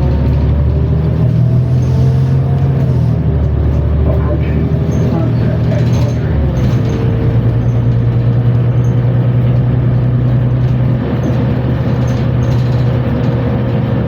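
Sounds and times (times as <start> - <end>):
bus engine drone: 0.0 - 14.0
thin transmission whine: 0.0 - 14.0.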